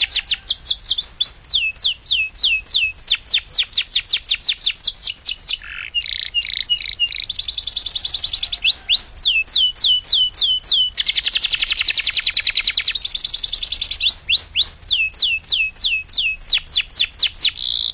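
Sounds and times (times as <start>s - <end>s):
canary singing: 0.0s - 17.9s.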